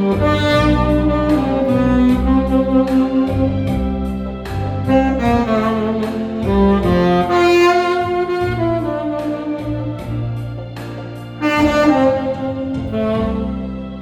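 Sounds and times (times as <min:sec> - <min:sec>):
backing track of strings and bass: 0:00.0 - 0:14.0
tenor saxophone melody: 0:00.0 - 0:14.0.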